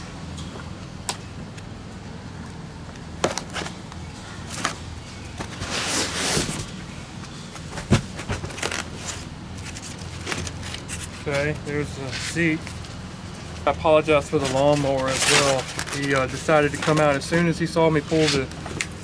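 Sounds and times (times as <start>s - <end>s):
parts clicking and scraping in box: 2.4s - 19.0s
packaging rustling: 3.0s - 19.0s.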